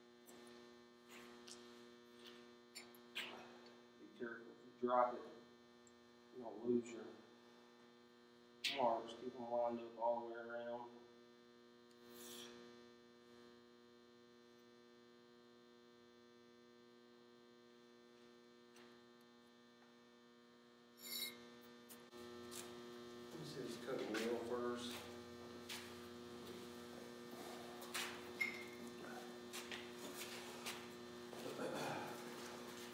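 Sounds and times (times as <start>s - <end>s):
electrical mains hum: 0.0s - 32.9s.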